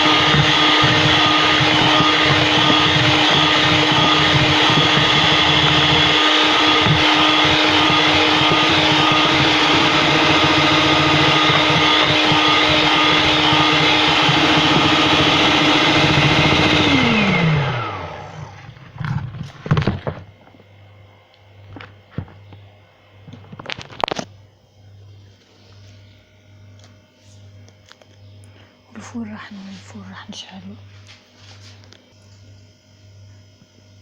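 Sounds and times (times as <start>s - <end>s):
electric mixer whine: 0.0s - 34.0s.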